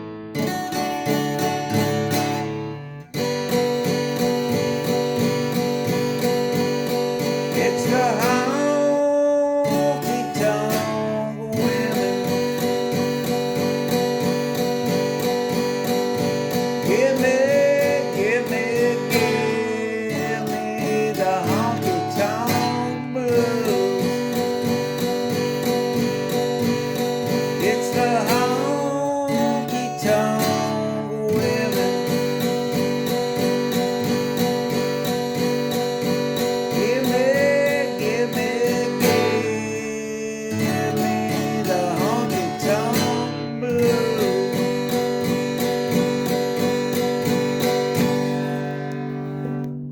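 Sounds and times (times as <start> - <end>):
acoustic guitar strumming: 0.0 - 49.9
sliding guitar notes: 0.0 - 49.9.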